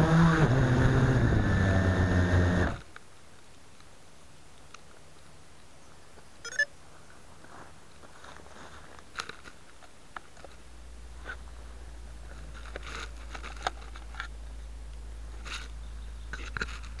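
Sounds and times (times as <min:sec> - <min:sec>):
low steady microphone rumble: 0:00.0 - 0:17.0
grass rustling against camera: 0:02.6 - 0:17.0.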